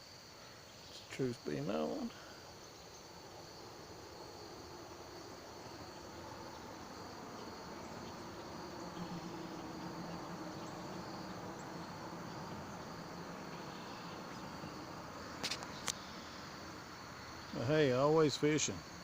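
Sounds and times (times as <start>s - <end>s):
insects trilling: 0.0s - 19.0s
low background hum: 0.4s - 18.8s.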